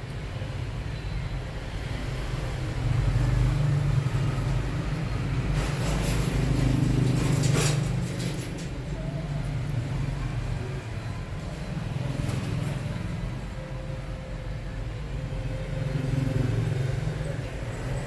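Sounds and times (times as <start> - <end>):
vehicle engine rumbling: 3.0 - 18.0.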